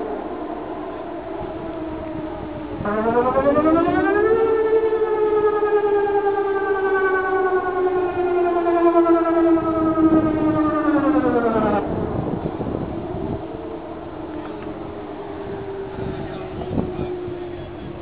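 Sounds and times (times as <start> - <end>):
electronic warning siren: 0.0 - 18.0.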